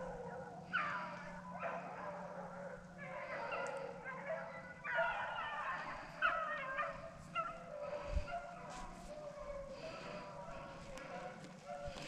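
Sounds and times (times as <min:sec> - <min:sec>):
hounds baying and yipping: 0:00.0 - 0:12.0.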